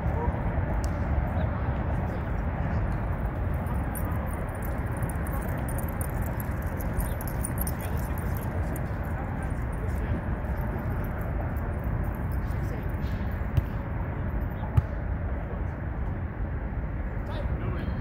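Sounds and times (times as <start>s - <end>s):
outdoor background rumble and hiss: 0.0s - 18.0s.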